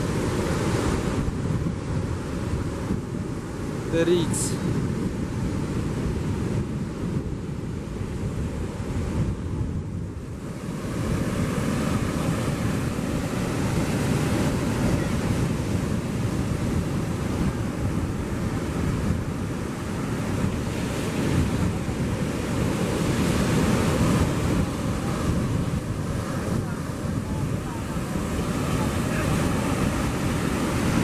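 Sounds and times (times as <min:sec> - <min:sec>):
surf washing onto beach: 0:00.0 - 0:31.0
wind buffeting microphone: 0:00.0 - 0:31.0.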